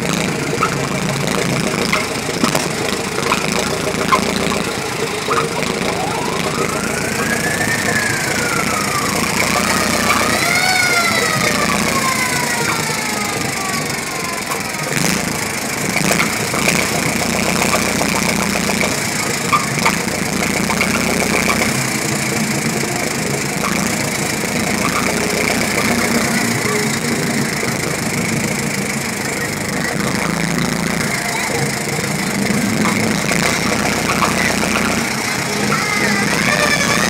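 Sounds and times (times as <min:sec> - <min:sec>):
old car engine clattering: 0:00.0 - 0:37.0.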